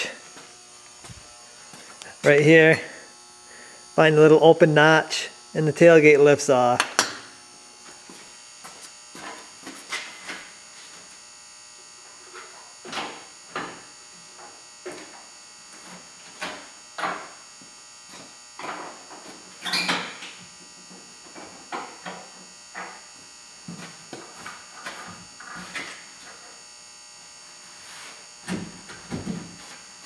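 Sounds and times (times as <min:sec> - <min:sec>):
high-pitched electric buzz: 0:00.0 - 0:30.0.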